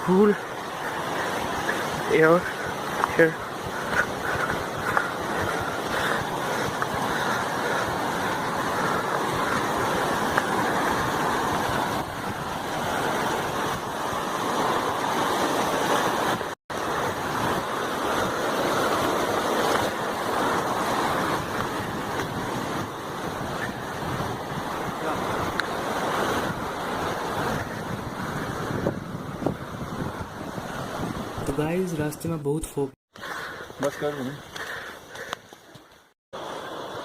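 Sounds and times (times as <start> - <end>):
rushing mountain water: 0.0 - 37.0.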